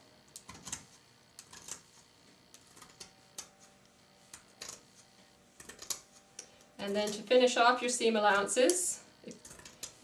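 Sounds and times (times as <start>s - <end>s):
shears snipping fabric: 0.3s - 10.0s.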